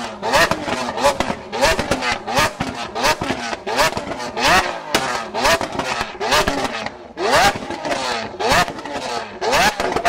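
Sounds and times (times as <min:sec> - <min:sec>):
sports car engine revving: 0:00.0 - 0:10.0.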